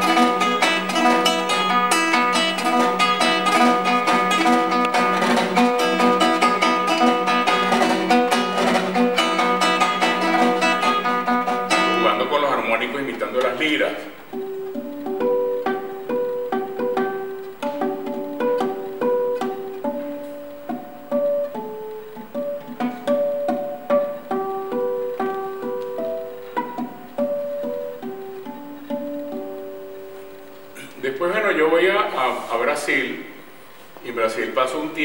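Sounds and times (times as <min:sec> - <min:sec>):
small guitar plucked melody: 0:00.0 - 0:30.9.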